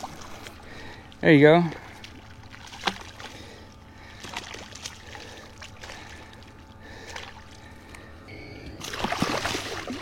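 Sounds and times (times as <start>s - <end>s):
water trickling and splashing: 0.0s - 8.0s, 8.8s - 10.0s.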